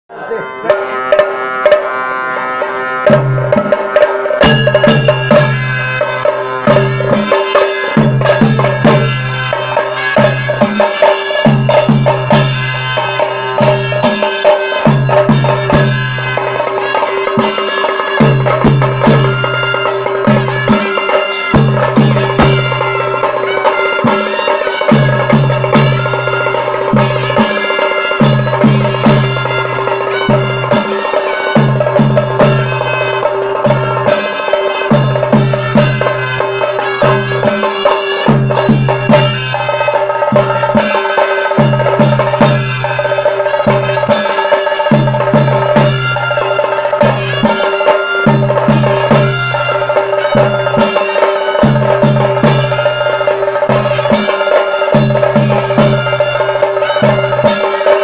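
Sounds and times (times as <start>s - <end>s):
drum ensemble playing fast rhythm: 0.2s - 58.0s.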